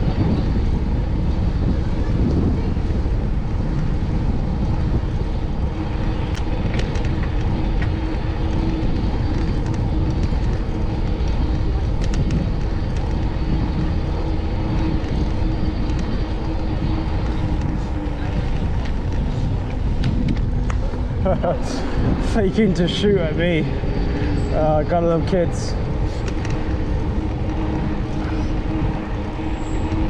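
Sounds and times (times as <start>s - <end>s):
bicycle road rumble: 0.0s - 30.0s
motor vehicles running: 0.0s - 30.0s
wind: 0.0s - 30.0s.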